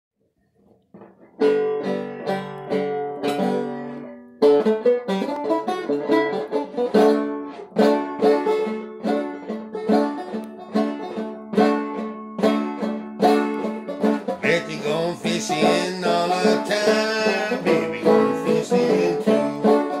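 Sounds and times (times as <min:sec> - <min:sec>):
banjo playing: 0:00.9 - 0:20.0.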